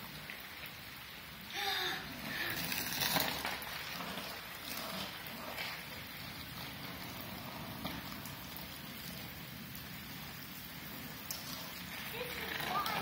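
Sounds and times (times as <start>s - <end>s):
rain on wet pavement: 0.0s - 13.0s.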